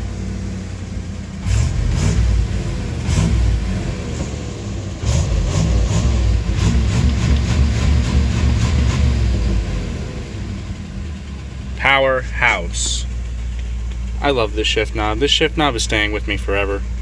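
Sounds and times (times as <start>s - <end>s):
pickup engine revving: 0.0s - 17.0s.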